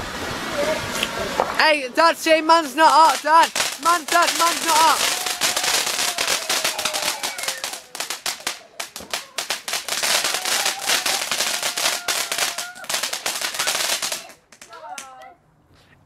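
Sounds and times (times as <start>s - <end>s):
fireworks crackling and banging: 1.0s - 15.1s.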